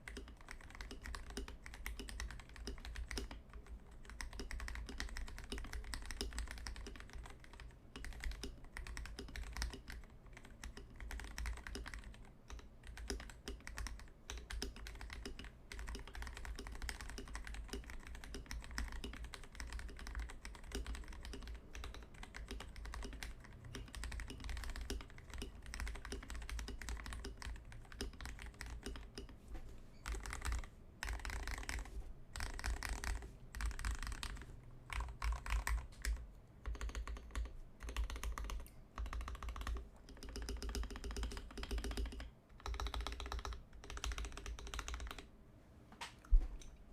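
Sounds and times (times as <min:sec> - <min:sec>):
mechanical keyboard typing: 0:00.0 - 0:29.4, 0:30.0 - 0:45.3.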